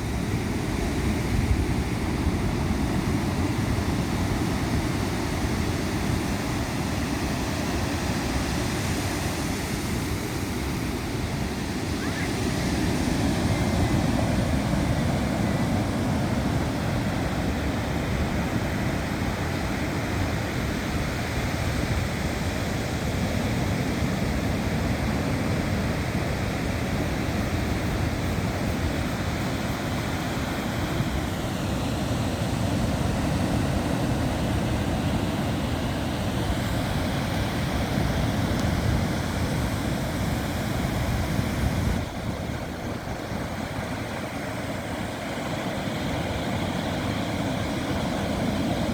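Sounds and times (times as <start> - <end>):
ocean surf: 0.0 - 48.9
wind on the microphone: 0.0 - 48.9.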